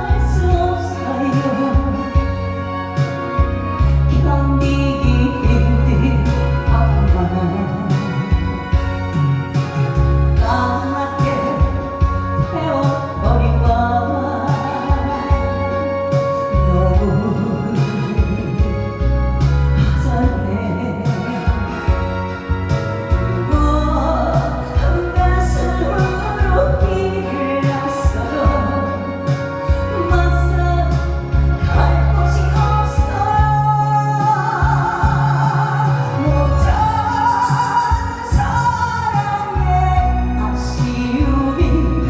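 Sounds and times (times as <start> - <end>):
music with steady bass beat: 0.0 - 42.0
person singing: 0.0 - 42.0.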